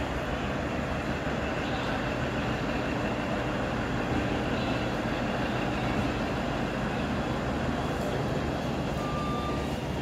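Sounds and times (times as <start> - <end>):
passenger train rumbling: 0.0 - 10.0.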